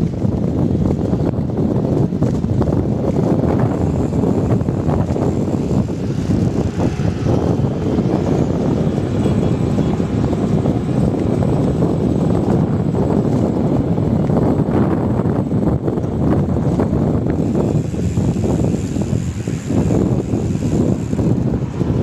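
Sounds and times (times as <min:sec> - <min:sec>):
motorcycle engine and tyres: 0:00.0 - 0:22.0
wind buffeting microphone: 0:00.0 - 0:22.0.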